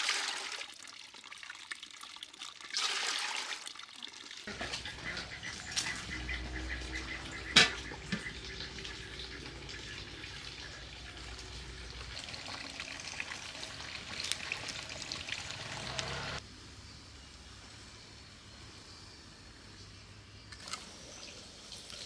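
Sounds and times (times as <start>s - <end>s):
water running and trickling: 0.0s - 16.4s, 20.6s - 22.0s.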